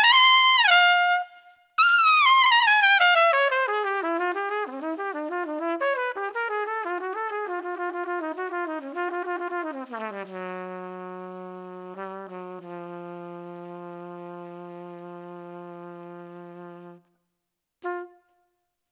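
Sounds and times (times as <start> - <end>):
trumpet playing: 0.0 - 17.1, 17.8 - 18.4.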